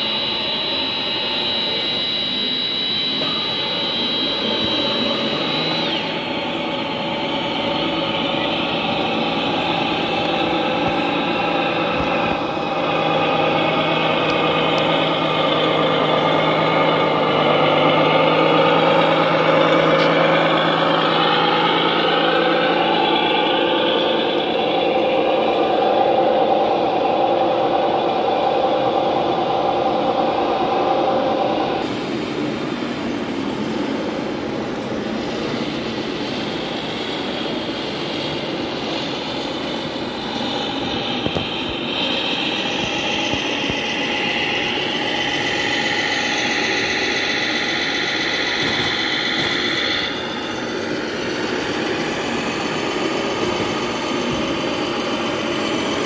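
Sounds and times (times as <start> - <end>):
small motors whining: 0.0 - 32.0, 34.3 - 56.0
steady noisy background: 0.0 - 56.0.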